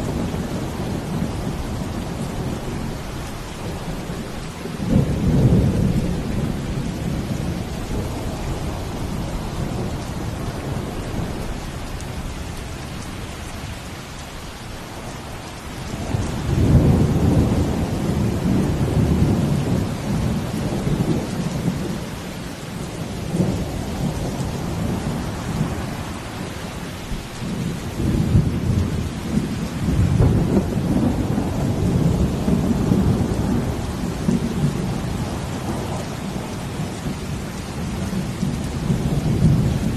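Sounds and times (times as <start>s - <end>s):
steady falling rain: 0.0s - 39.9s.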